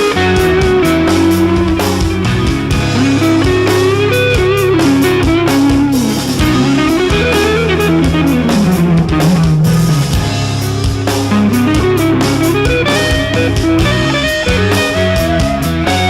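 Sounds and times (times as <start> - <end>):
bass guitar: 0.0 - 16.0
drums: 0.0 - 16.0
electric guitar: 0.0 - 16.0.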